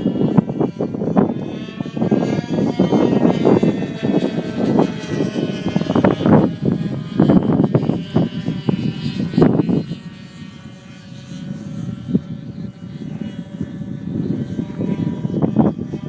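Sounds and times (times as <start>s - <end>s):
model plane motor flying: 0.0s - 16.0s
wind gusting on microphone: 0.0s - 16.0s.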